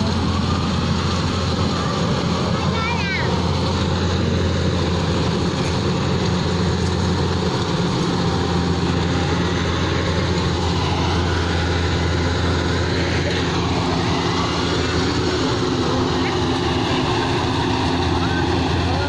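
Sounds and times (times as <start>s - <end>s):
combine harvester engine hum: 0.0s - 19.0s.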